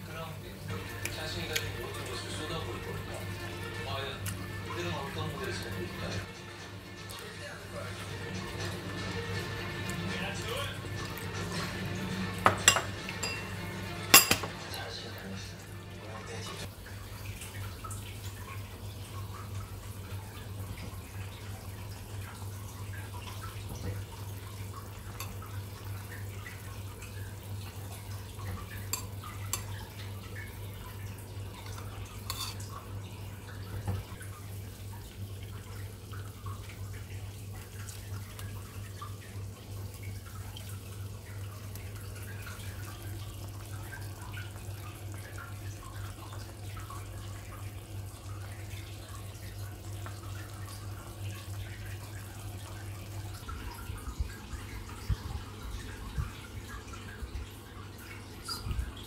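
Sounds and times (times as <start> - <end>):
water dripping and bubbling: 0.0 - 59.0.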